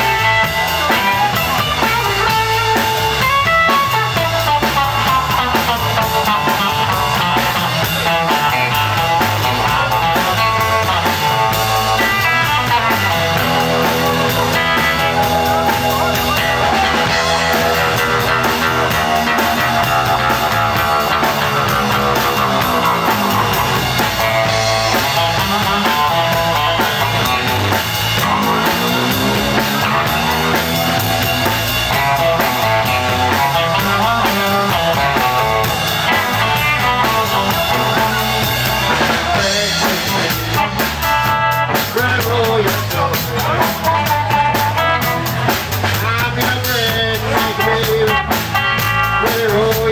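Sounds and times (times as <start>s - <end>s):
electric blues band playing: 0.0s - 49.9s.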